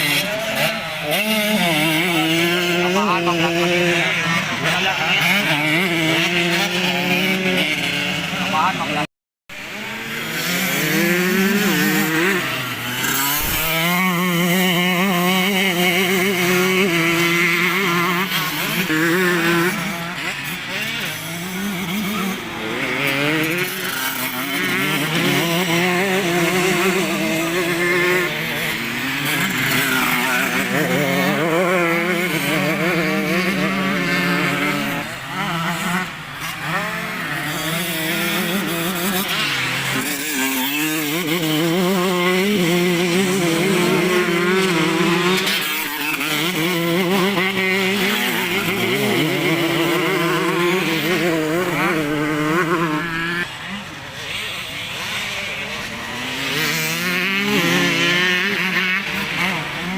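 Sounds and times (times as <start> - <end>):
motocross motorcycles revving: 0.0 - 59.9.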